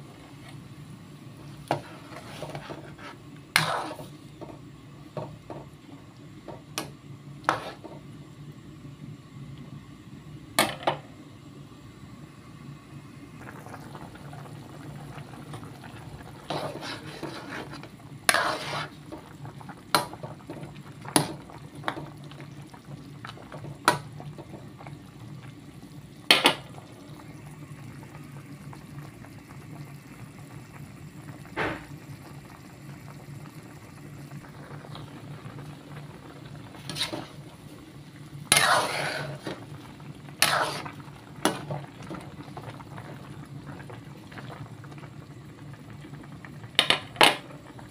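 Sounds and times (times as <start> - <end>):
soup boiling in pot: 0.0 - 47.9.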